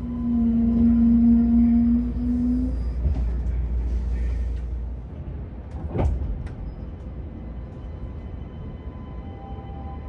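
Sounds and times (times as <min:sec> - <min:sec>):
train low rumble: 0:00.0 - 0:10.0.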